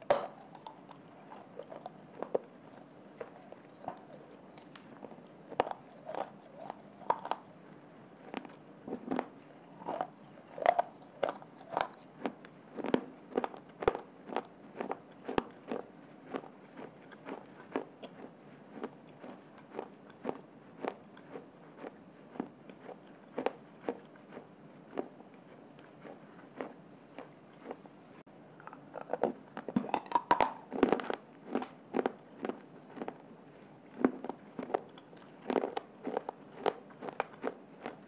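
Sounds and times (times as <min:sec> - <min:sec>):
person chewing crunchy clay: 0:00.0 - 0:27.9, 0:28.6 - 0:38.0.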